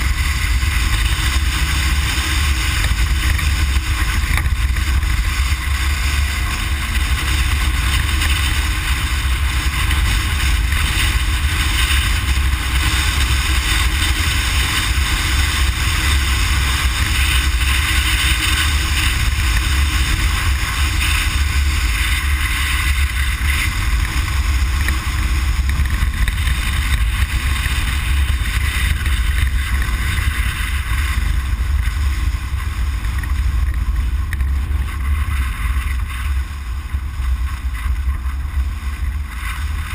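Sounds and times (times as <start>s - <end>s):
vehicle cabin rumble: 0.0s - 39.9s.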